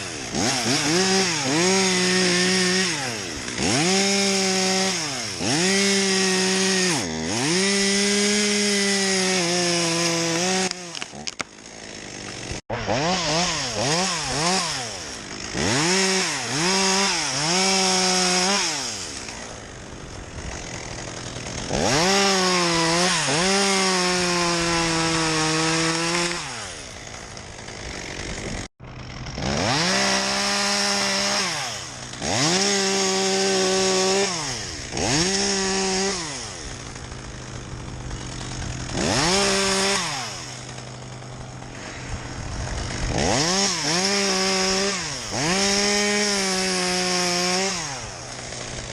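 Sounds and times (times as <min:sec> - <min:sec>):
chainsaw revving: 0:00.0 - 0:48.9.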